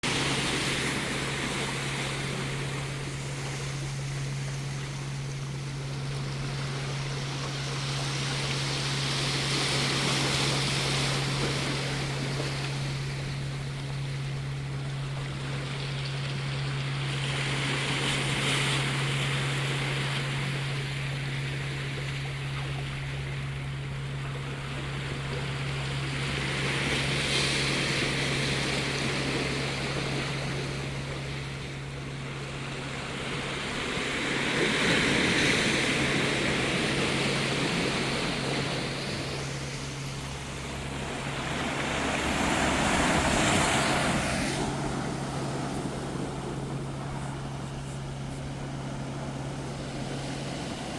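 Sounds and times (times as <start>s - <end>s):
low hum: 0.0s - 50.9s
sea waves washing on beach: 0.0s - 50.9s.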